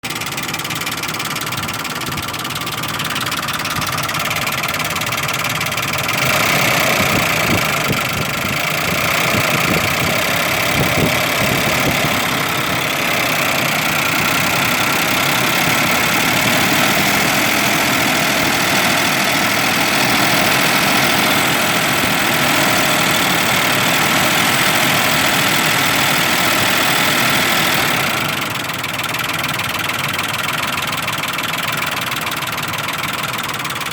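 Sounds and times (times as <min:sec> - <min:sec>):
car engine idling: 0:00.0 - 0:33.9
engine lifter ticking: 0:00.0 - 0:33.9.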